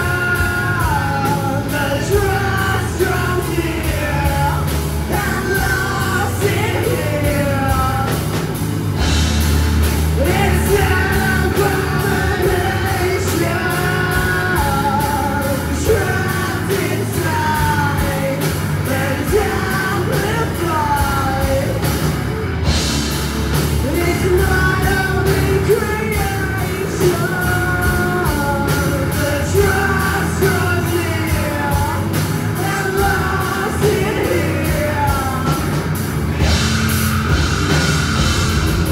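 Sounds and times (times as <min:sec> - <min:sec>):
person singing: 0:00.0 - 0:08.5, 0:10.2 - 0:22.1, 0:23.8 - 0:35.8
bass guitar: 0:00.0 - 0:38.9
drum kit beat: 0:00.0 - 0:38.9
electric guitar: 0:00.0 - 0:38.9.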